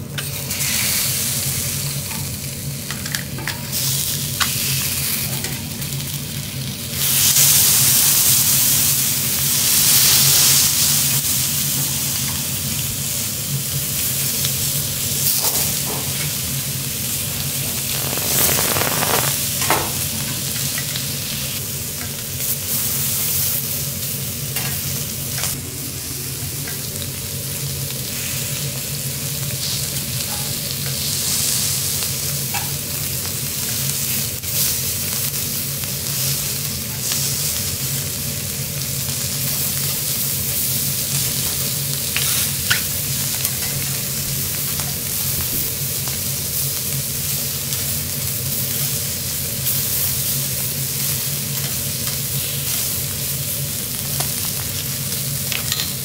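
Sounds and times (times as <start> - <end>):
seafood sizzling on a griddle: 0.1 - 56.0.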